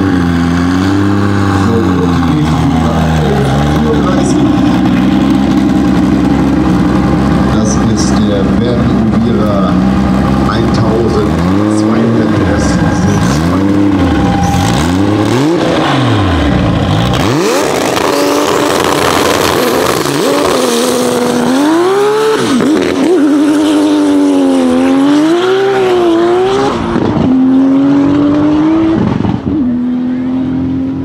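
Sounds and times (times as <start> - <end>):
car engine revving and accelerating: 0.0 - 31.0.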